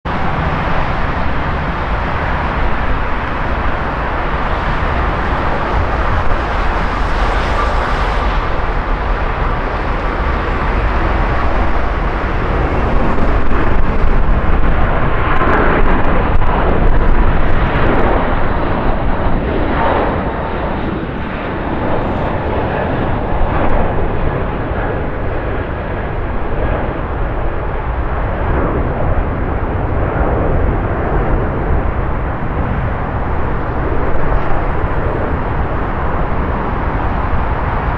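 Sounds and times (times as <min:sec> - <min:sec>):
jet engine roar: 0:00.0 - 0:37.9.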